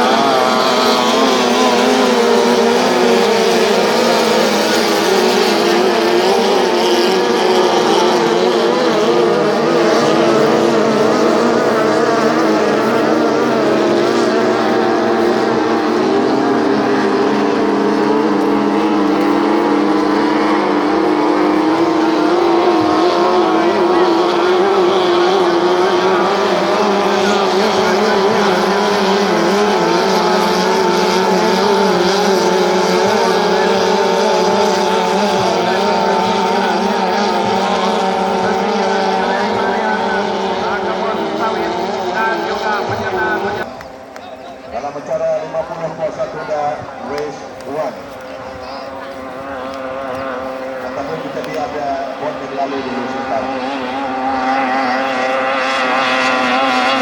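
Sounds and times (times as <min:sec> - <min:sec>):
racing boat outboard engines: 0:00.0 - 0:57.0.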